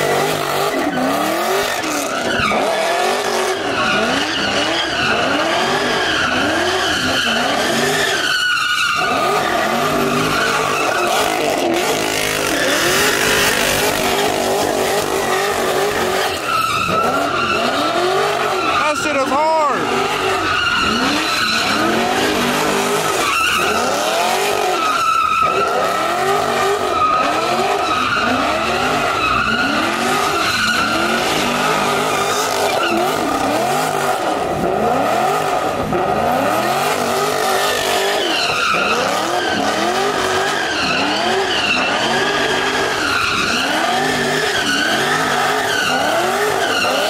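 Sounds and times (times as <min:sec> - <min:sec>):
tyres squealing: 0:00.0 - 0:34.3, 0:36.3 - 0:47.0
car engine revving: 0:00.0 - 0:47.0.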